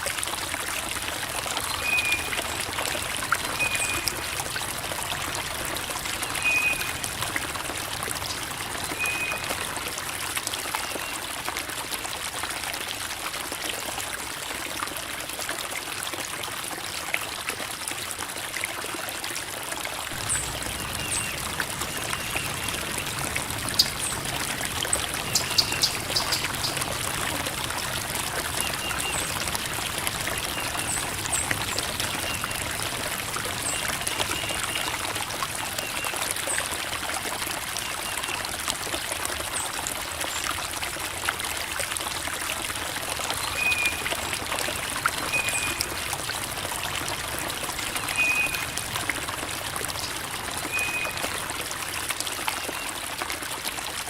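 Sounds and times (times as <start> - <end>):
creek water babbling over rocks: 0.0 - 54.0.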